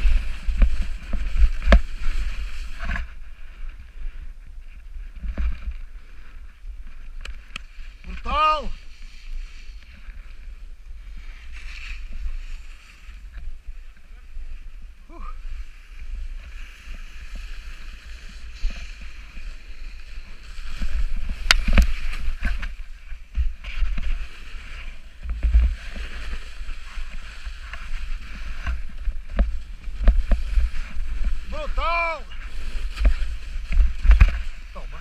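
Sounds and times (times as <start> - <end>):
wind on microphone: 0.0 - 15.5, 16.3 - 35.0
snowboard scraping over snow: 0.0 - 35.0.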